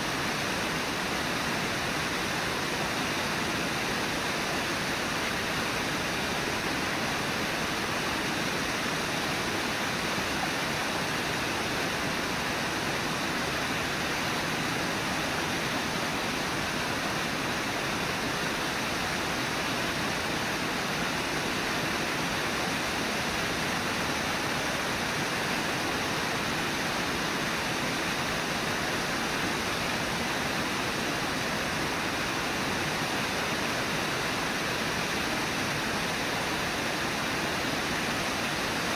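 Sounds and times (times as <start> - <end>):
river and waterfall rushing: 0.0 - 38.9.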